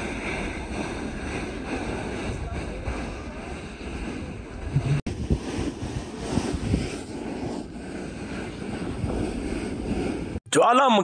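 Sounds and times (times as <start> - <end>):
wind gusting over microphone: 0.0 - 10.4.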